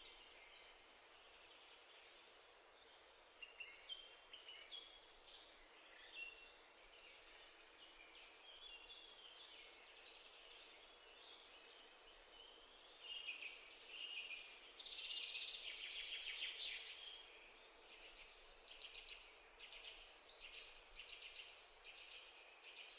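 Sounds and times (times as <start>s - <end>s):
faint birds chirping: 0.0s - 22.9s.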